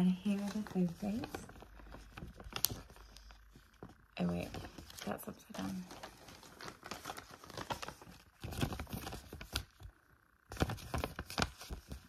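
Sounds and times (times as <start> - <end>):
paper rustling and crinkling: 0.0 - 9.9, 10.5 - 12.0.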